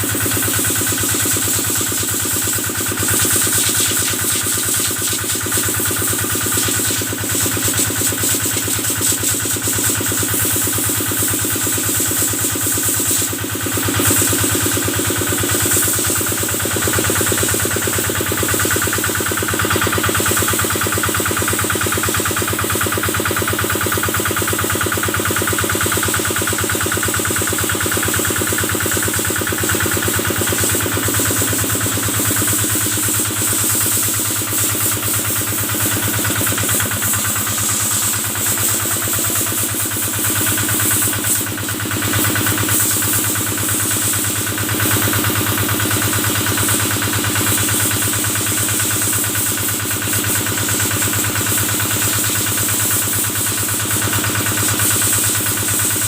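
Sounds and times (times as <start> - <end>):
sprayer engine running steadily: 0.0 - 56.0.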